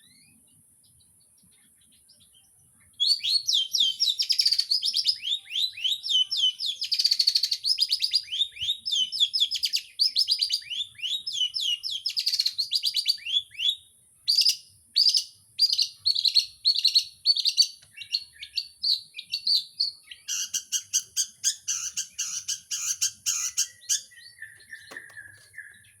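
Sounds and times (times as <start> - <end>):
bird singing fast notes: 3.0 - 26.0.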